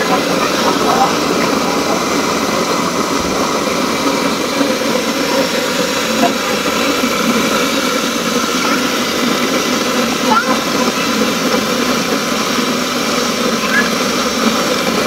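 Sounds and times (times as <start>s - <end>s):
grain mill grinding beans: 0.0s - 15.0s.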